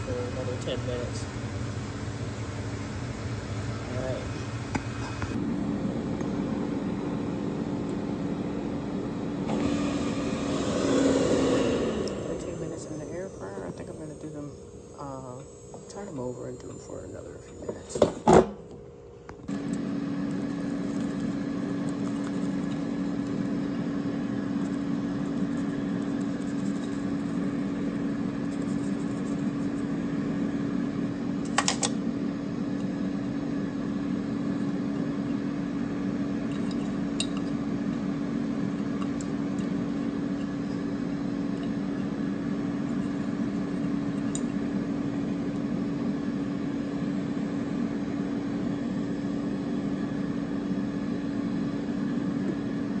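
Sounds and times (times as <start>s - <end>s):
air fryer fan humming: 0.0s - 53.0s.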